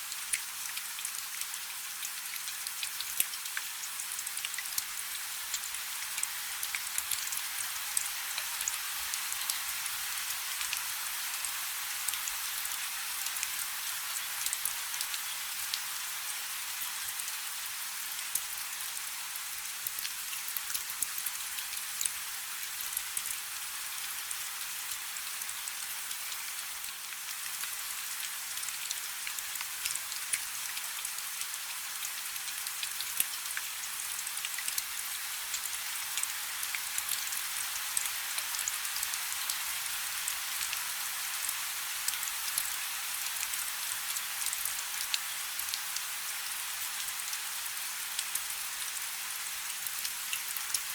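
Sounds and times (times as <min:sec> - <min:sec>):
rain falling on river: 0:00.0 - 0:50.9.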